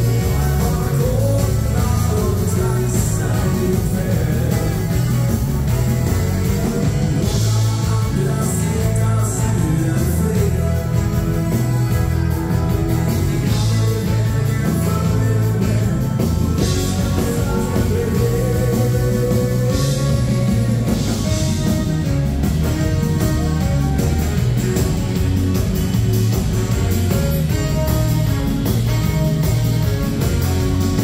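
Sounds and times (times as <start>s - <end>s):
bass line: 0.0s - 31.0s
drums: 0.0s - 31.0s
electric guitar: 0.0s - 31.0s
live rock and roll band: 0.0s - 31.0s.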